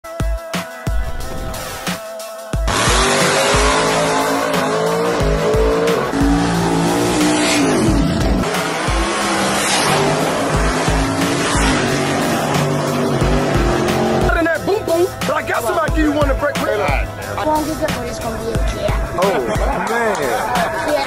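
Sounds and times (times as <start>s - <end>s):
music with deep bass thumps: 0.2s - 2.0s, 2.6s - 21.0s
race car engines revving: 2.7s - 21.0s.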